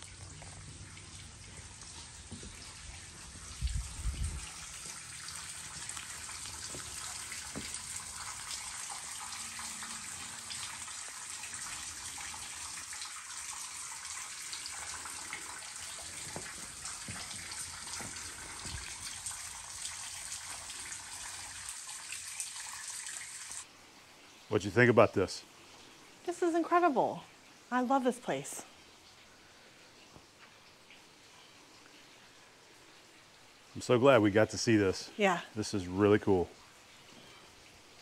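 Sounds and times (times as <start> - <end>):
water trickling and dripping: 0.0 - 38.0.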